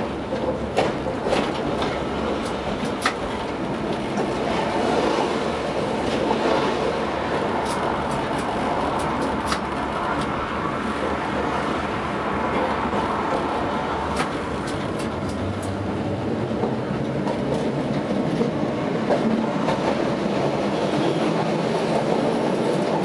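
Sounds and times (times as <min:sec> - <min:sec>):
tram wheels rumbling on rails: 0:00.0 - 0:23.0.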